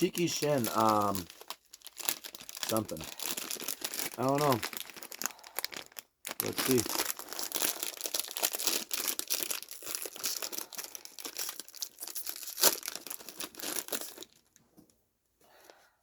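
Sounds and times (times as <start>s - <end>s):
plastic bag tearing: 0.0s - 14.4s
plastic bag crinkling: 0.0s - 14.6s.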